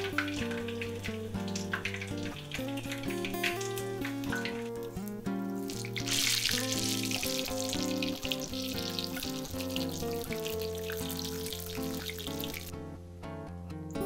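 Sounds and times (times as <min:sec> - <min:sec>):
batter deep-frying in oil: 0:00.0 - 0:12.7
background music: 0:00.0 - 0:14.0.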